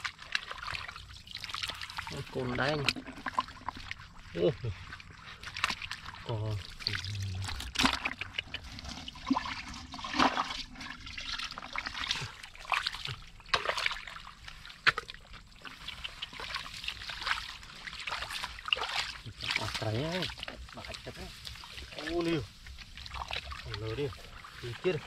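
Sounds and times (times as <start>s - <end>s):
mud and water squelching splashing: 0.0s - 25.0s.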